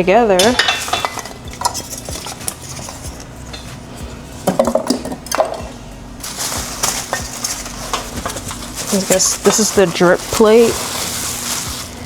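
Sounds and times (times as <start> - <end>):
grill parts clattering: 0.3 - 12.0.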